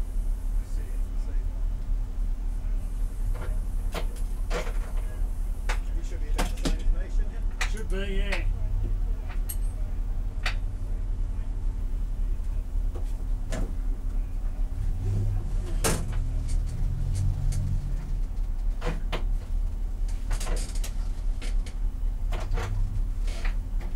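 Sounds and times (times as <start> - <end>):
car engine idling: 0.0 - 23.9
clicks and knocks of people moving: 2.7 - 10.8, 12.4 - 23.9.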